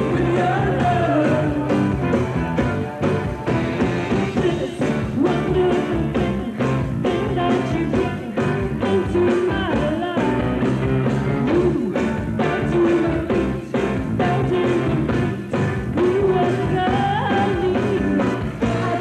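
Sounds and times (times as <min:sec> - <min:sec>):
woman singing: 0:00.0 - 0:01.8, 0:04.3 - 0:10.7, 0:11.4 - 0:19.0
electric guitar: 0:00.0 - 0:19.0
steady drum beat: 0:00.0 - 0:19.0.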